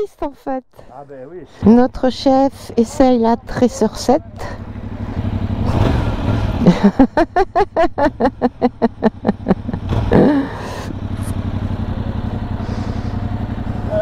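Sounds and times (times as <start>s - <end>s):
motorcycle engine idling: 0.9s - 14.0s.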